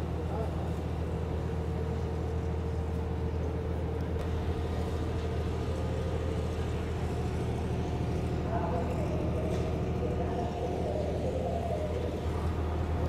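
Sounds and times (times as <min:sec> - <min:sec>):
train rumbling on tracks: 0:00.0 - 0:13.0.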